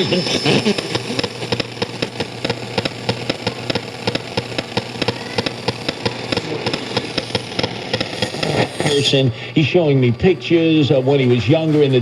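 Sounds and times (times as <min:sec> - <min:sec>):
rhythmic ticking buzz: 0:00.0 - 0:12.0
steady low hum: 0:00.0 - 0:12.0.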